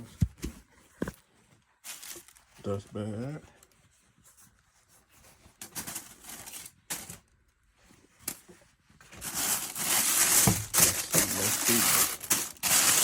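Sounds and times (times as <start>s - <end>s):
packaging rustling and crinkling: 0.9s - 8.4s, 9.0s - 13.0s.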